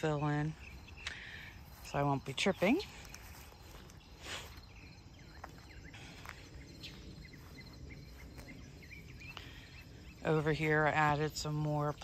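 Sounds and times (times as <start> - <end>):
insect hum: 0.0 - 12.0
soft bird chirps: 0.0 - 12.0.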